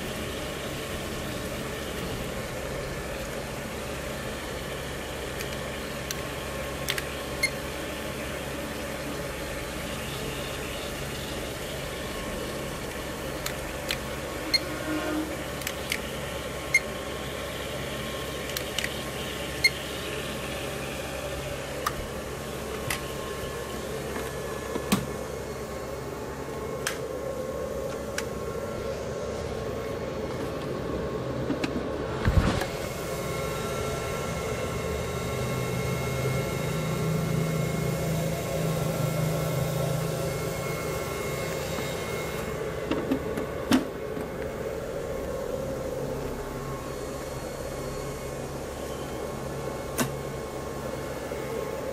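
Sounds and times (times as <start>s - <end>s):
fan noise: 0.0s - 51.9s
inverter electrical hum: 0.0s - 51.9s.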